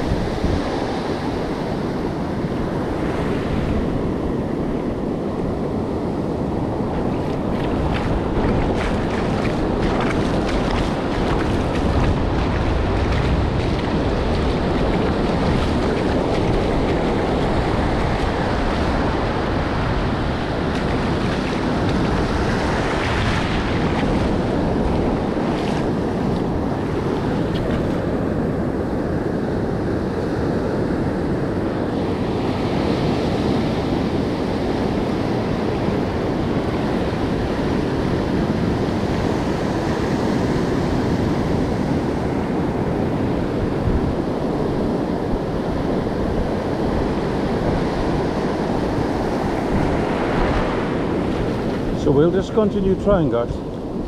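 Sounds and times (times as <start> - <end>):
ocean surf breaking on sand: 0.0 - 54.0
wind buffeting microphone: 0.0 - 54.0.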